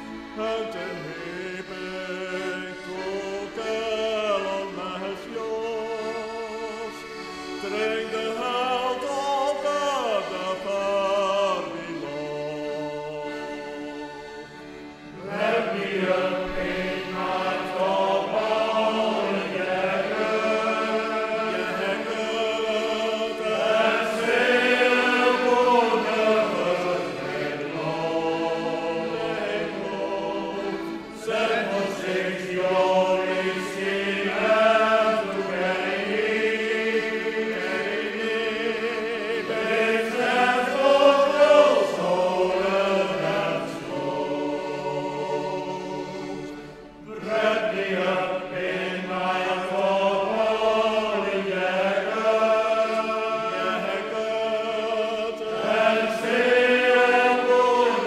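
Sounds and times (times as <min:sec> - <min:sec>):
men's choir singing in harmony: 0:00.0 - 0:58.0.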